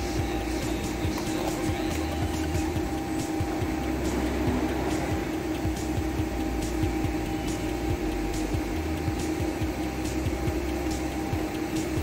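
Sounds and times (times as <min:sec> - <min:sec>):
workshop machinery hum: 0:00.0 - 0:12.0.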